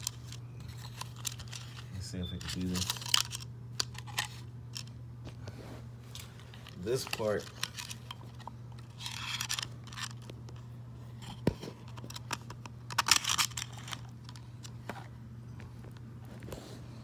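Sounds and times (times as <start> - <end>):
plastic parts clicking and scraping: 0.0 - 4.9, 6.1 - 15.1
steady low hum: 0.0 - 17.0.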